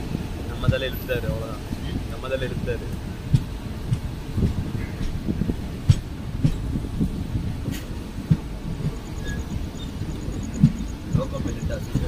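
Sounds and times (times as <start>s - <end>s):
train rumble inside coach: 0.0s - 12.0s
wheels knocking on track: 0.0s - 12.0s.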